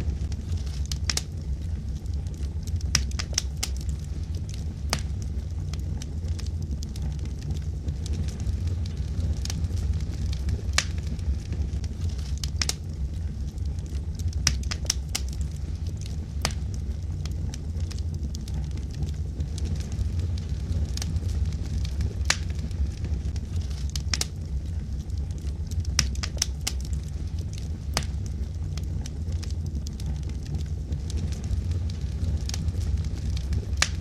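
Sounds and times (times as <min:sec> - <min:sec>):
fire crackling and popping: 0:00.0 - 0:34.0
fire rumbling: 0:00.0 - 0:34.0.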